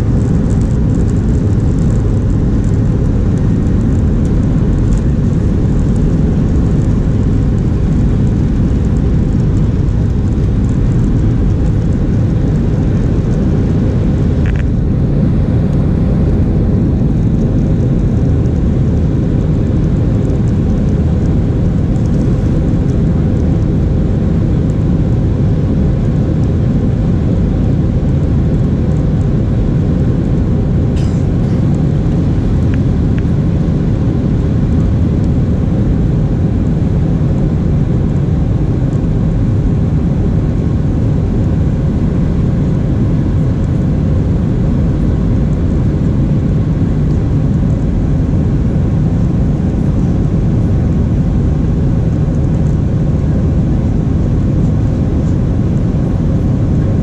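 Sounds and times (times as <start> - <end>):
airplane cabin engine noise: 0.0 - 57.0
faint steady hum: 0.0 - 57.0.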